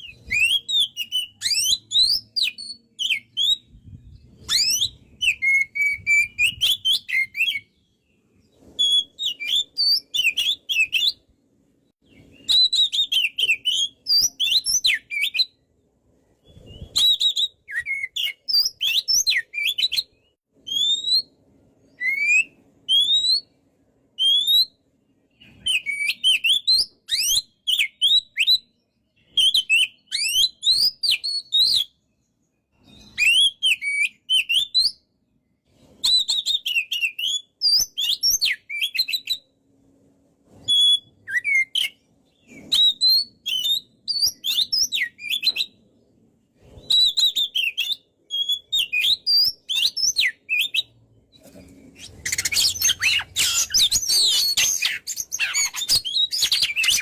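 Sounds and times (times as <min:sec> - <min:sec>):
bird singing whistled notes: 0:00.0 - 0:15.7, 0:16.4 - 0:23.6, 0:24.2 - 0:35.1, 0:35.8 - 0:39.6, 0:40.6 - 0:46.1, 0:46.7 - 0:57.0.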